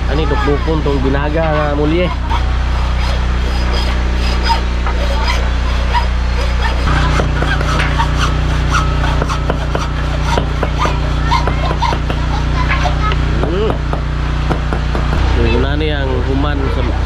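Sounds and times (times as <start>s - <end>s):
steady low hum: 0.0s - 17.0s
hacksaw sawing: 1.4s - 15.2s.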